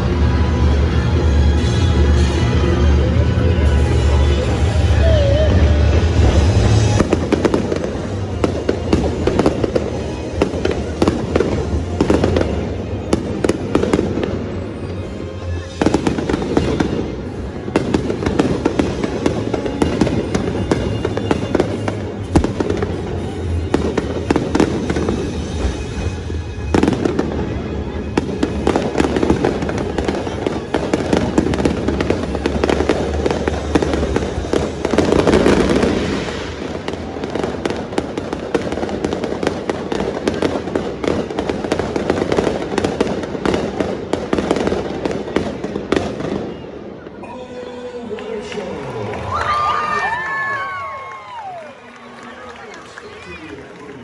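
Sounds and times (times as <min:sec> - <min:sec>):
fireworks bursting and crackling: 0:00.0 - 0:47.2, 0:49.3 - 0:54.0.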